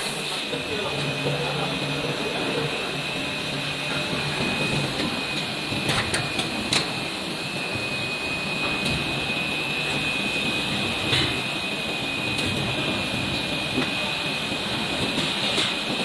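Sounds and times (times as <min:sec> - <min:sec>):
injection moulding machine running: 0:00.0 - 0:16.0.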